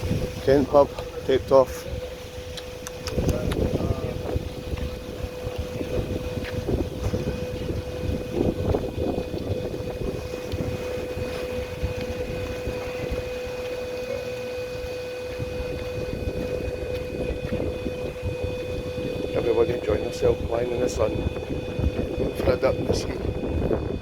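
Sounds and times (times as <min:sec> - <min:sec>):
gimbal motors whining: 0:00.0 - 0:24.0
wind rumble on microphone: 0:00.0 - 0:24.0.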